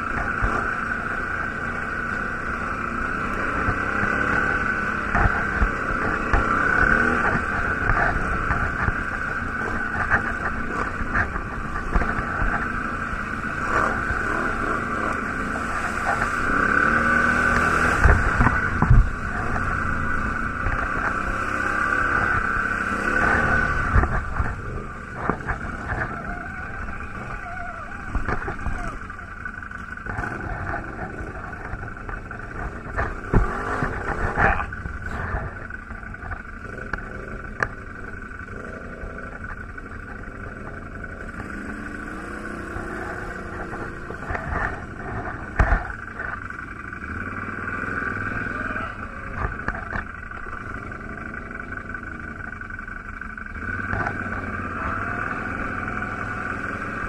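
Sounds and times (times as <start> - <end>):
quad bike engine: 0.0 - 57.0.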